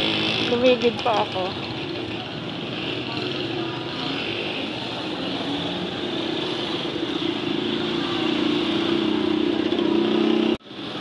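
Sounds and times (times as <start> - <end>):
small motorcycle engine running: 0.0 - 11.0
street traffic: 0.0 - 11.0.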